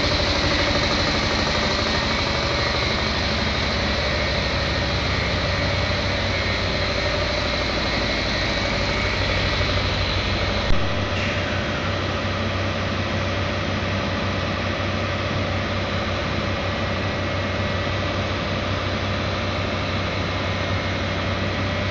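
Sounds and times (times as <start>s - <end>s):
engine running steadily: 0.0s - 21.9s.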